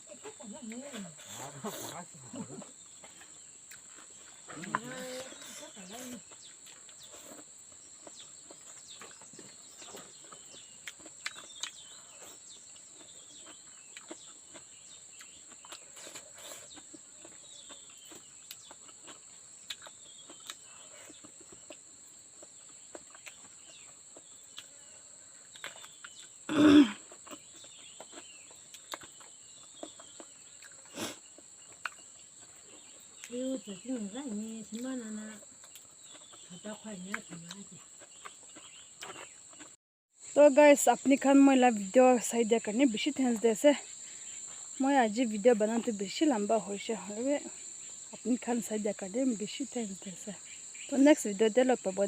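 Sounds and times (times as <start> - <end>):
insects chirring: 0.0 - 52.0.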